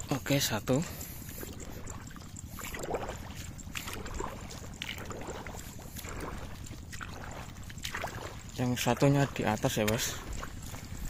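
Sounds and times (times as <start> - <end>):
footsteps wading through mud: 0.0 - 11.0
low rumble: 0.0 - 11.0
water sloshing: 0.0 - 11.0.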